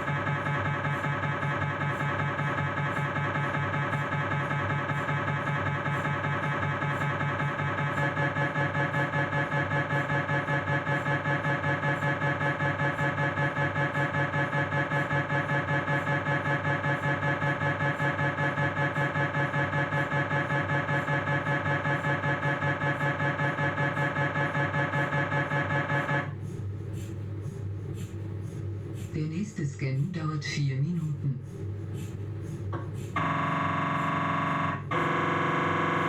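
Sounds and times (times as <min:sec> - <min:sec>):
mri scanner knocking: 0:00.0 - 0:30.0, 0:31.1 - 0:36.0.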